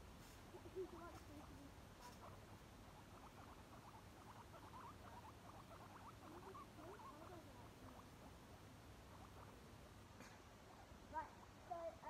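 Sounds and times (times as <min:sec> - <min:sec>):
guinea pigs squeaking: 0:00.0 - 0:12.0.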